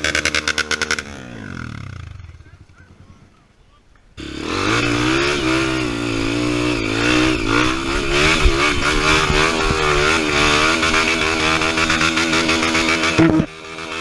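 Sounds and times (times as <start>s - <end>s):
off-road motorcycle engine revving: 0.0s - 3.6s, 4.2s - 14.0s.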